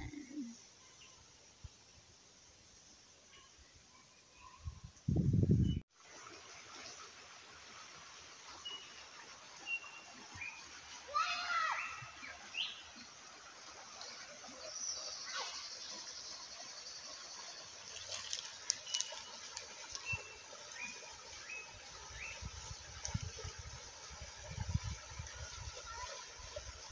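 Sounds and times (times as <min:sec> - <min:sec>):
creek running over stones: 0:00.0 - 0:03.3, 0:05.8 - 0:26.9.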